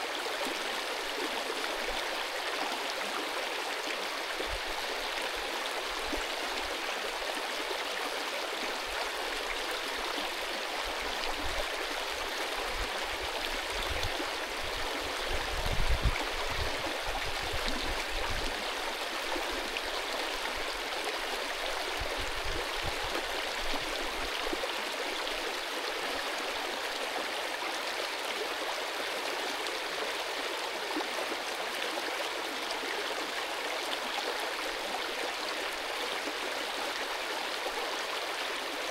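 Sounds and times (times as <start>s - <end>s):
stream rushing over stones: 0.0s - 38.9s.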